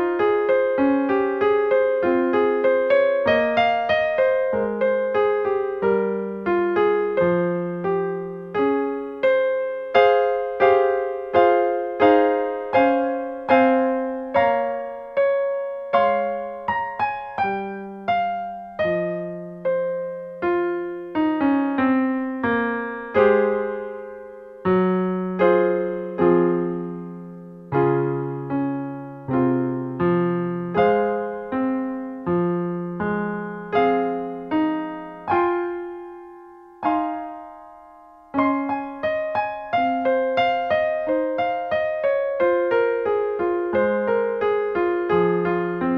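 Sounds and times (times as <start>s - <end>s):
solo piano music: 0.0s - 45.9s.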